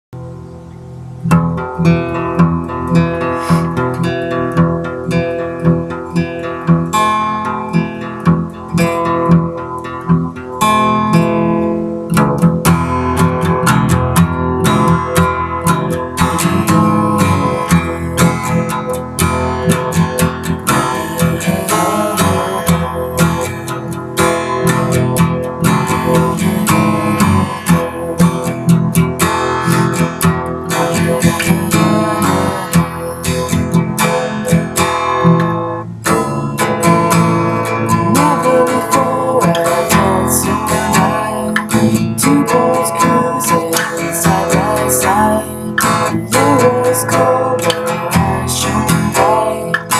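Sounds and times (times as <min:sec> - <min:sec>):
acoustic guitar playing: 0:00.2 - 0:49.9.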